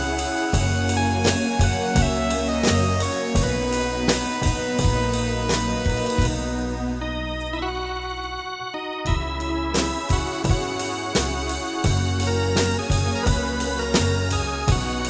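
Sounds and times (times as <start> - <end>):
drum kit beat: 0.0 - 7.0, 9.0 - 15.0
bass: 0.0 - 15.0
held keyboard chords: 0.0 - 15.0.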